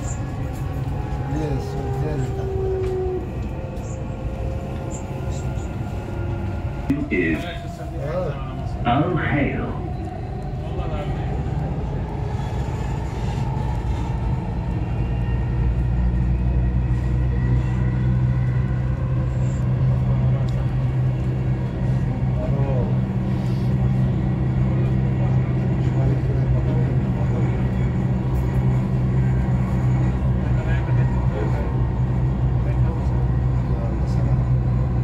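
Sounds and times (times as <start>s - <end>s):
train hum and rumble: 0.0s - 35.0s.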